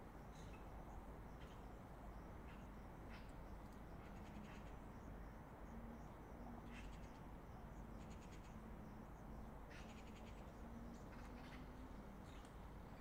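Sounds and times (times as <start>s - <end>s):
distant highway traffic rumble: 0.0s - 13.0s
faint pulsing low hum: 0.0s - 13.0s.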